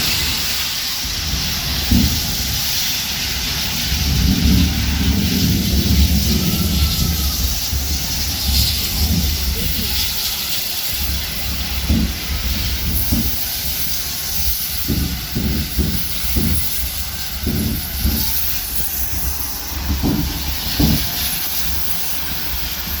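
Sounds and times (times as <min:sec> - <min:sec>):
gas hissing under pressure: 0:00.0 - 0:23.0.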